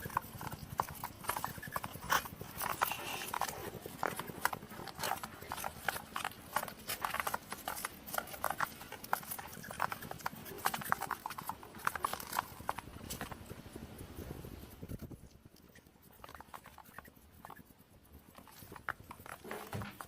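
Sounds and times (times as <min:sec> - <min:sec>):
hedgehog clicking rapidly: 0:00.0 - 0:20.0.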